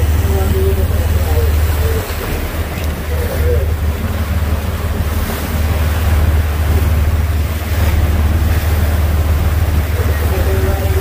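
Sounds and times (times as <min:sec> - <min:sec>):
boat wake rushing: 0:00.0 - 0:11.0
low engine rumble: 0:00.0 - 0:11.0
wind buffeting microphone: 0:00.0 - 0:11.0.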